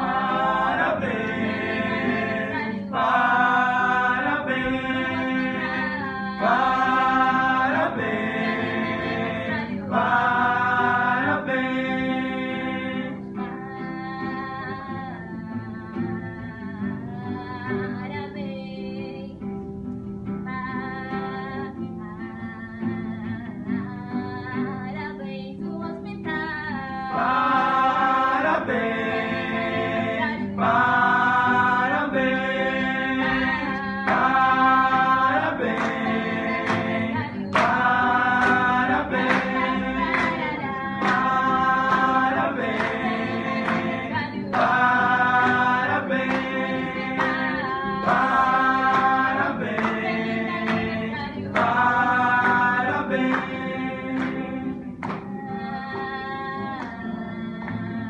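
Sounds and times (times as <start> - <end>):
group singing: 0.0 - 18.5, 26.3 - 58.0
acoustic guitar strumming: 0.0 - 58.0.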